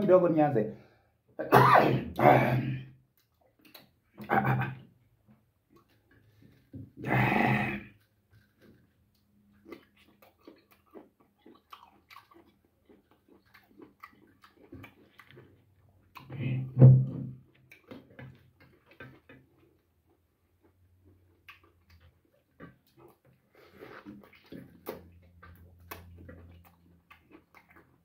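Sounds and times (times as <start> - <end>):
man chewing with wet smacks: 3.0 - 6.8, 7.8 - 16.8, 17.4 - 28.0.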